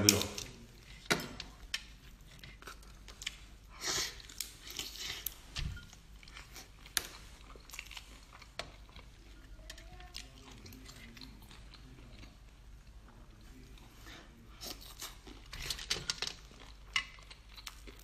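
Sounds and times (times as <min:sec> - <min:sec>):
chewing: 0:00.1 - 0:18.0.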